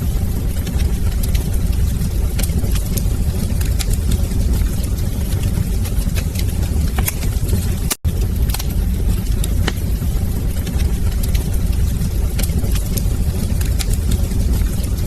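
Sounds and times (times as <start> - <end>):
fire roaring: 0.0 - 15.0
logs crackling and popping: 0.0 - 15.0.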